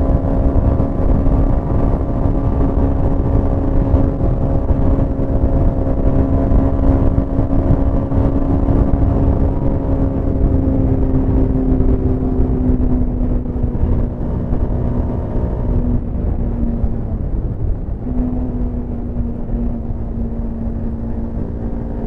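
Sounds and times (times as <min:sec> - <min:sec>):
motorcycle engine running: 0:00.0 - 0:22.0
wind rumble: 0:00.0 - 0:22.0.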